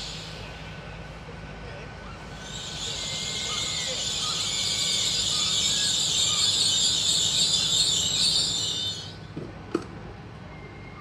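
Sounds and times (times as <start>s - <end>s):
air hissing from train: 0.0s - 9.4s.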